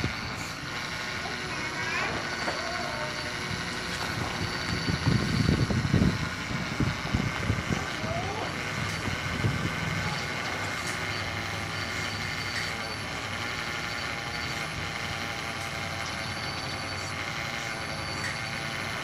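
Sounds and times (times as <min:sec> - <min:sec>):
excavator pump hum and whine: 0:00.0 - 0:19.0.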